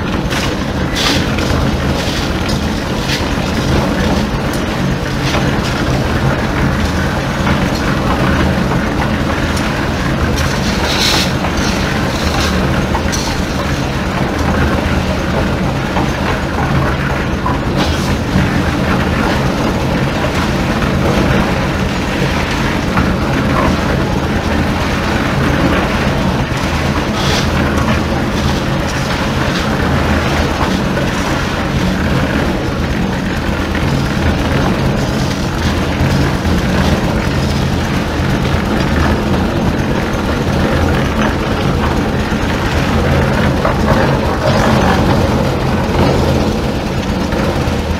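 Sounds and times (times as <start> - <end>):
concrete mixer engine droning: 0.0 - 47.9
knocks and clatters in drum: 0.0 - 47.9
mixer drum churning: 0.0 - 47.9.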